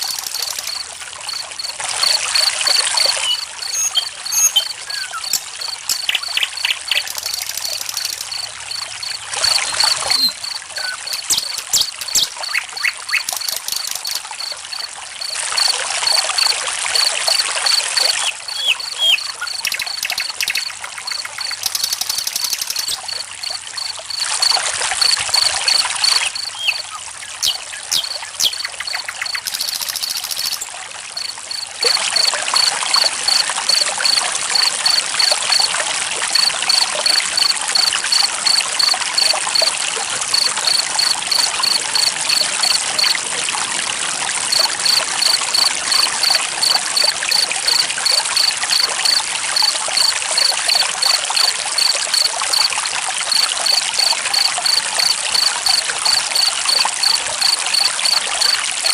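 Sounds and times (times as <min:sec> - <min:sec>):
cricket chirping: 0:00.0 - 0:43.2, 0:44.5 - 0:58.9
running water trickling: 0:00.0 - 0:58.9.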